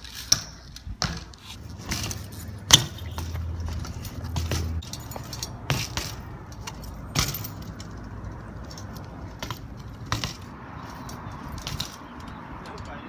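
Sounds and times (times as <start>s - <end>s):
bike chain and parts jangling: 0.0s - 13.0s.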